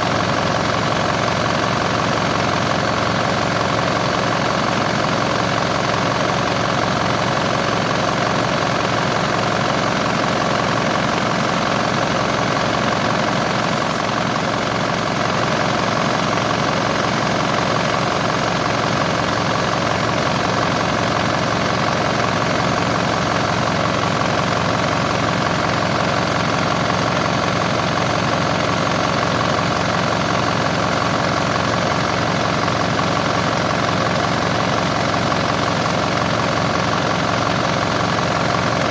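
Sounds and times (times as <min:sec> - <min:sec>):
large engine idling: 0:00.0 - 0:38.9.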